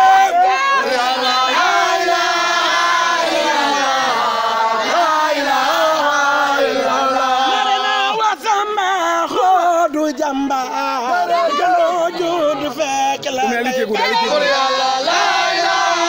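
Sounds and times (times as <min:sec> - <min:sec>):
voices chanting together: 0:00.0 - 0:16.0.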